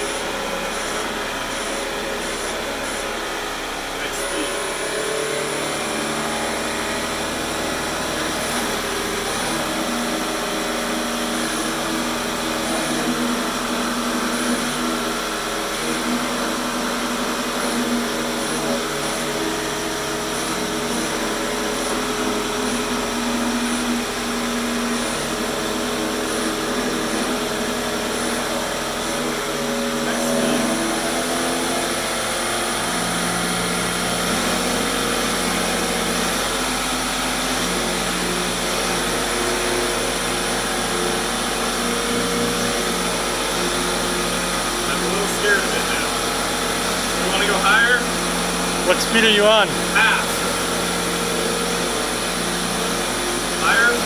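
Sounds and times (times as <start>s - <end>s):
spinning robot motor whine: 0.0s - 54.0s.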